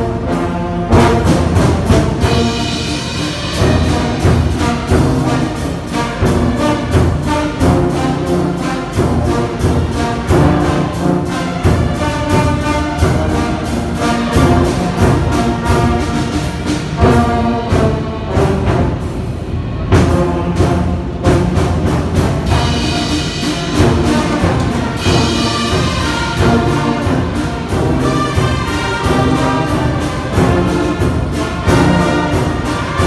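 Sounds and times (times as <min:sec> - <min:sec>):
brass horns playing melody: 0:00.0 - 0:33.0
drums beating steady rhythm: 0:00.0 - 0:33.0.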